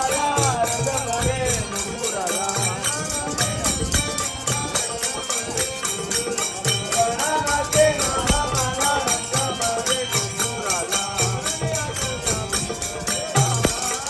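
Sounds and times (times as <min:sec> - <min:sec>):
drum beat: 0:00.0 - 0:14.0
harmonium melody: 0:00.0 - 0:14.0
small hand cymbals: 0:00.0 - 0:14.0.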